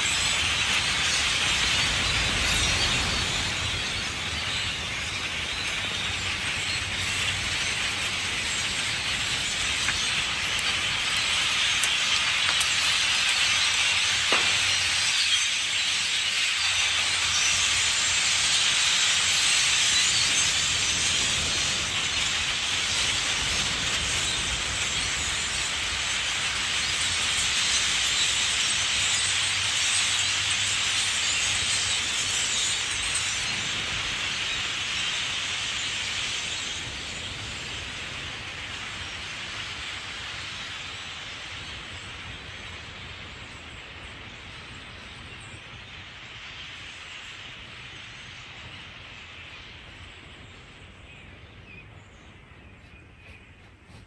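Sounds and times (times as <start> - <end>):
flock of birds calling: 0.0 - 54.0.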